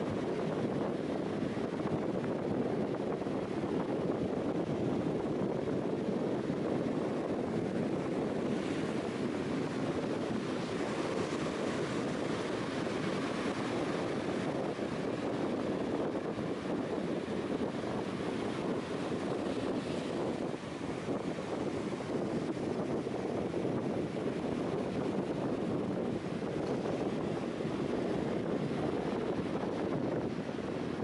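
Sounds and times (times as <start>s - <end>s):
ocean surf washing: 0.0s - 31.0s
wind on microphone: 0.0s - 31.0s.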